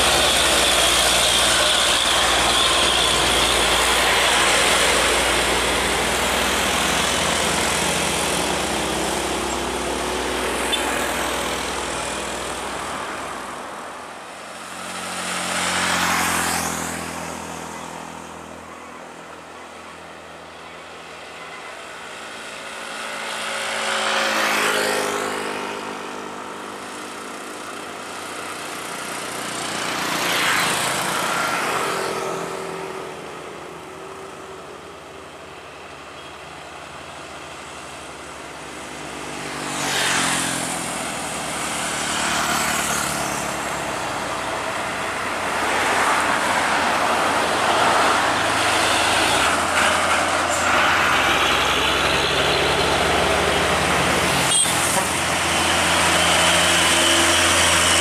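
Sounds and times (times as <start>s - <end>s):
diesel trucks passing: 0.0s - 58.0s
motorcycles passing: 0.0s - 58.0s.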